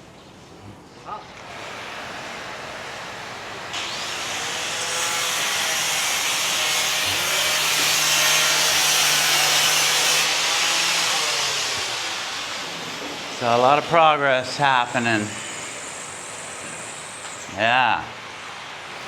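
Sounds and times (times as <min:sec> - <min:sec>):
power tool whining hiss: 0:01.5 - 0:17.6.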